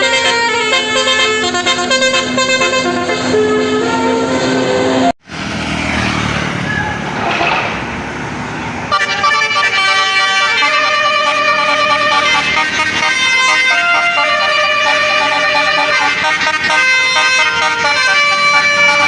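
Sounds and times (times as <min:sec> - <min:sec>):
multi-tone musical bus horn: 0:00.0 - 0:05.2, 0:08.9 - 0:19.0
road noise rushing: 0:00.0 - 0:19.0.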